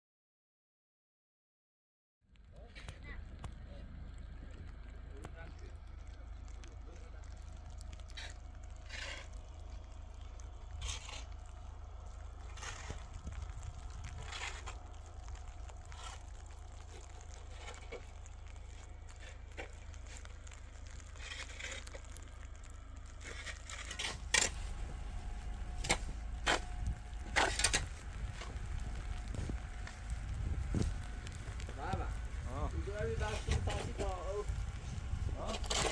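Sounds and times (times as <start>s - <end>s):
low rumble: 2.3s - 35.9s
crunches in snow: 2.6s - 35.9s.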